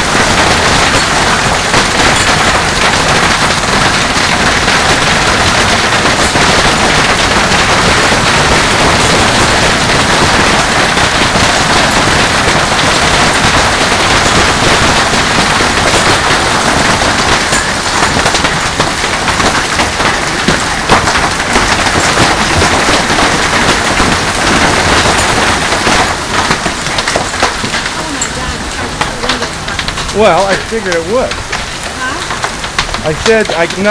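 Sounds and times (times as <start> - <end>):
hailstones clattering: 0.0 - 33.9.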